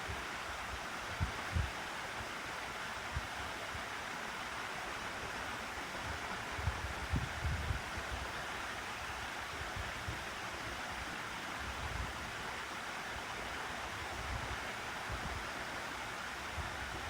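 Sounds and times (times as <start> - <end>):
fan rushing air: 0.0 - 17.0.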